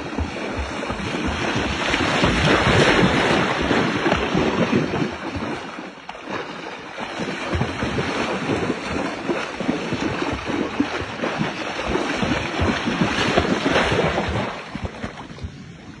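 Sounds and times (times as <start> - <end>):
elephant splashing in water: 0.0 - 15.8
wind buffeting microphone: 0.0 - 16.0.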